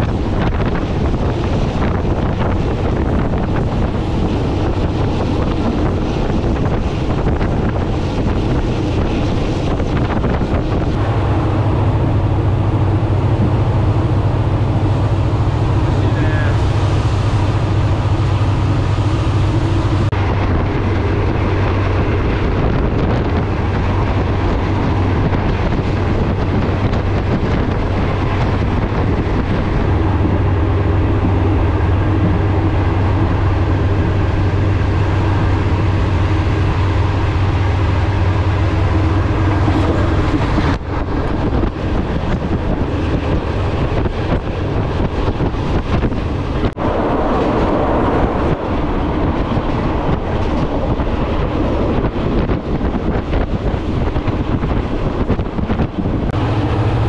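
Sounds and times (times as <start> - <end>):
train running rumble: 0.0 - 57.0
wind blowing through windows: 0.0 - 57.0.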